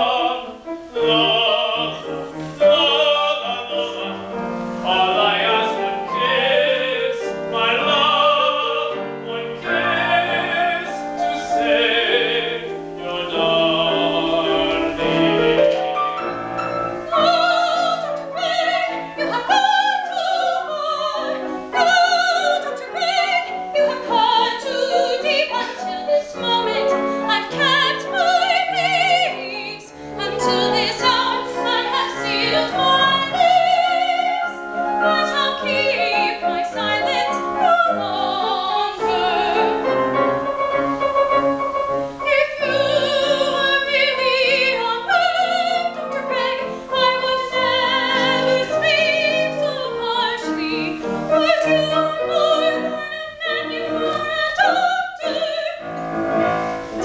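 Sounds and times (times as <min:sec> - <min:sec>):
grand piano: 0:00.0 - 0:57.0
operatic singing: 0:00.0 - 0:57.0.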